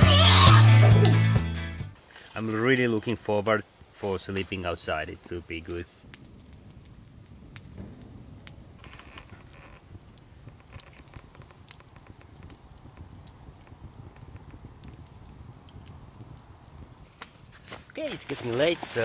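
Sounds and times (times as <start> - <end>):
campfire crackling and popping: 0.0 - 19.0
low rumble of flames: 1.9 - 19.0.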